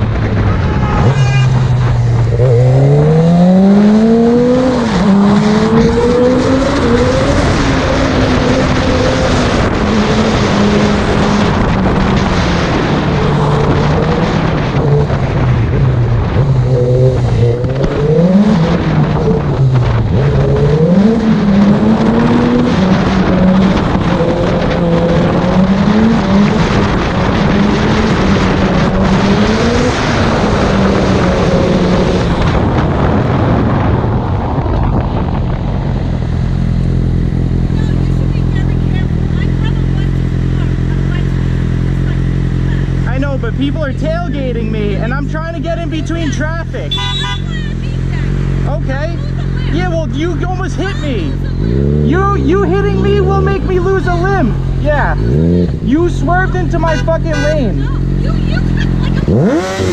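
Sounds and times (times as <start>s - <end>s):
wind rushing over microphone: 0.0s - 40.5s, 47.8s - 56.8s
motorcycle engine revving: 0.0s - 59.9s.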